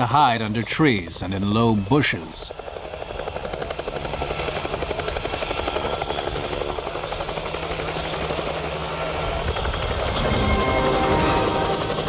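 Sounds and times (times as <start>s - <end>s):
helicopter engine tone: 0.0s - 12.0s
helicopter rotor beating: 0.0s - 12.0s.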